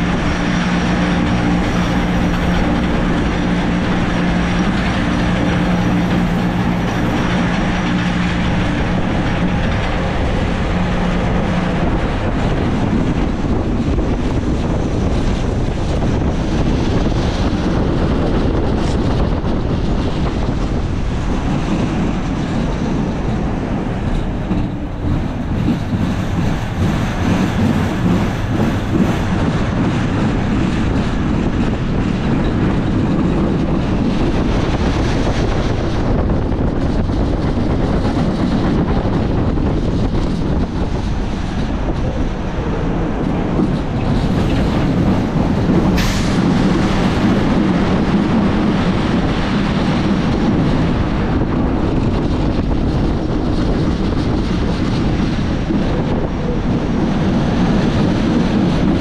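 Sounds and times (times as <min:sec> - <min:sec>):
coaster wheels rumbling on rails: 0:00.0 - 0:59.0.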